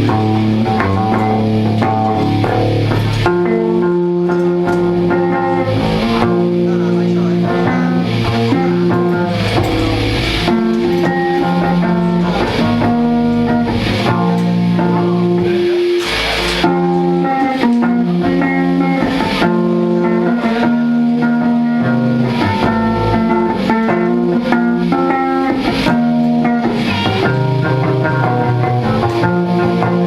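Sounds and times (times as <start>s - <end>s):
bass guitar: 0.0s - 30.0s
electric guitar: 0.0s - 30.0s.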